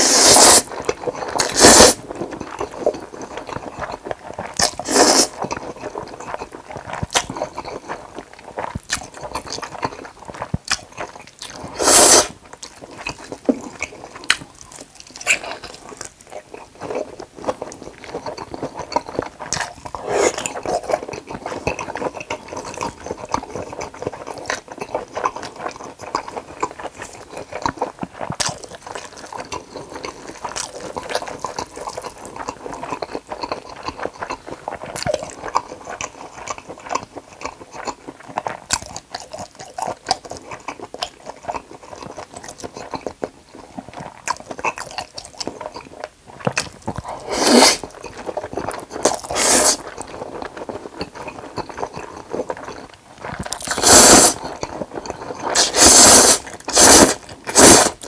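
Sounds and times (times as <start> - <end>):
wet chewing and smacking: 0.0 - 58.0.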